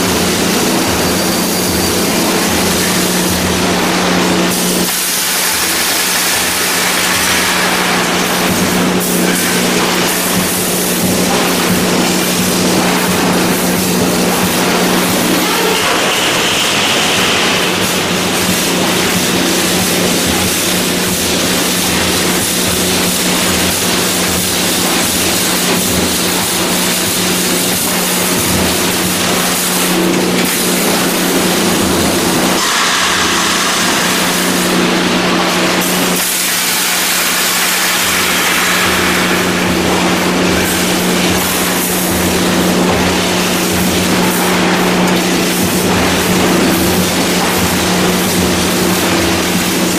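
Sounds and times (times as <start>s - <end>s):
welding machine humming: 0.0s - 49.9s.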